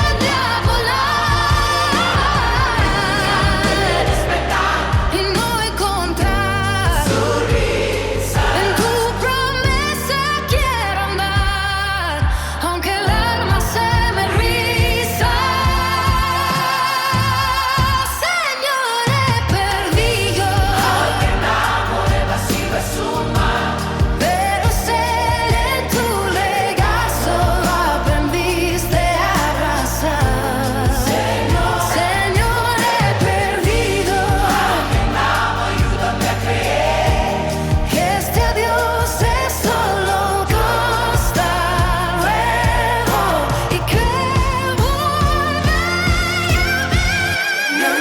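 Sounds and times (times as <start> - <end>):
worship band with steady beat: 0.0 - 18.3, 19.1 - 48.0
person singing with vibrato: 0.0 - 48.0.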